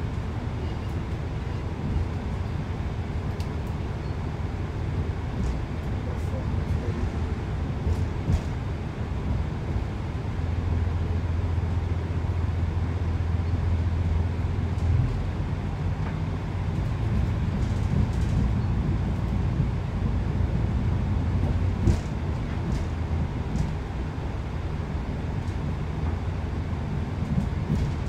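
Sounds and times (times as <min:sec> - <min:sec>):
train diesel drone: 0:00.0 - 0:28.0
train running rumble: 0:00.0 - 0:28.0.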